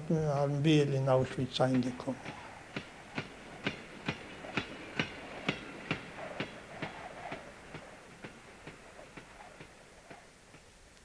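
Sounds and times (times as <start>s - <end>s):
train wheels clacking on rails: 0.8s - 10.8s.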